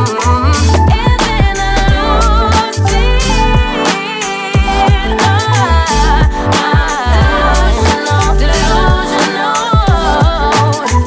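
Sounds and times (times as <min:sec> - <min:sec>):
r and b song with deep bass: 0:00.0 - 0:11.0.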